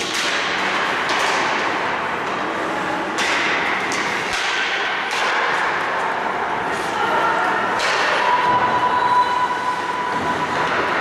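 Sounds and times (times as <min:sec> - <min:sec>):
hockey sticks and puck clacking: 0:00.0 - 0:07.0, 0:07.6 - 0:11.0.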